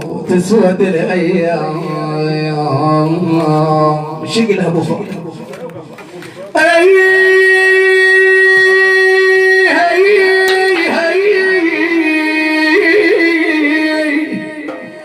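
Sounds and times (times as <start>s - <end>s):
man singing without words: 0.0s - 4.5s, 6.5s - 15.0s.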